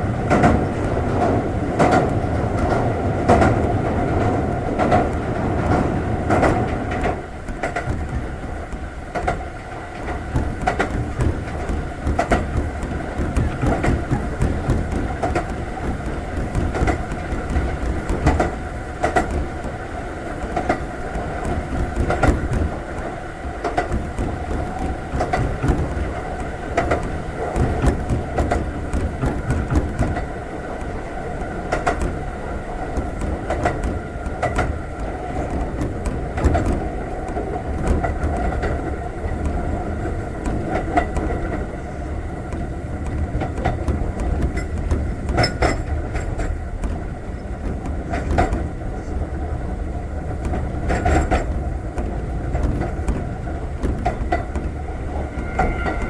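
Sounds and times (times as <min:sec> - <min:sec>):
low train rumble: 0:00.0 - 0:56.0
wheels clicking over rail joints: 0:00.0 - 0:56.0.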